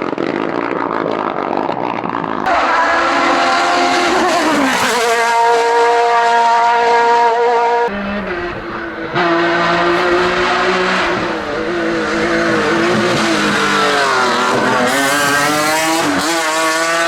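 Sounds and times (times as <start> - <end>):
race car engines at full throttle: 0.0 - 17.0
car engine revving: 1.8 - 17.0.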